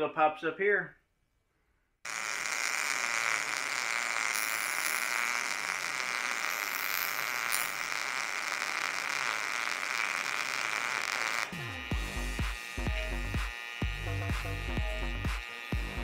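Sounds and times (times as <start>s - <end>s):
welding arc crackle and hiss: 2.1s - 16.0s.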